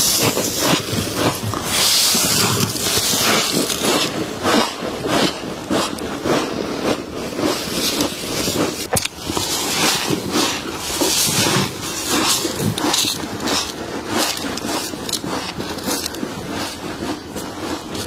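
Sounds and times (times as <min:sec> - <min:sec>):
crunching and chewing of frost: 0:00.0 - 0:18.0.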